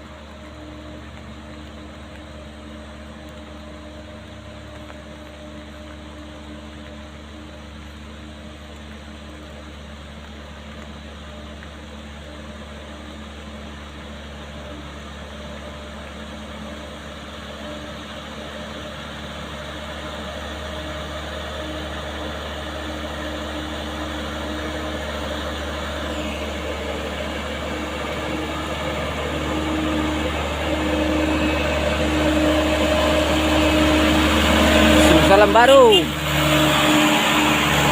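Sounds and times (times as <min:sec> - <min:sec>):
heavy truck engine running: 0:00.0 - 0:37.9.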